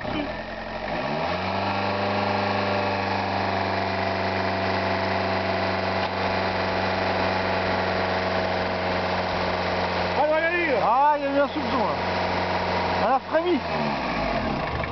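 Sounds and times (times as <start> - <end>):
starter motor cranking engine: 0.0 - 14.9.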